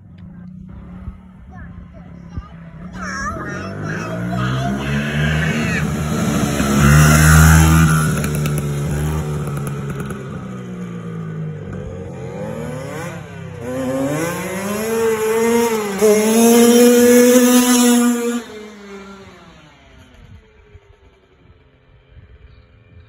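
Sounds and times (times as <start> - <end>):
dirt bike engine revving: 0.4 - 20.4.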